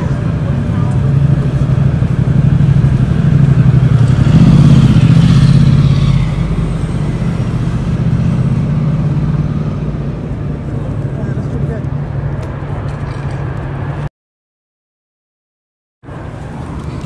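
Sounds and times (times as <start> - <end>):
traffic engine hum: 0.0 - 14.1, 16.0 - 17.0
vehicle passing: 0.0 - 14.1.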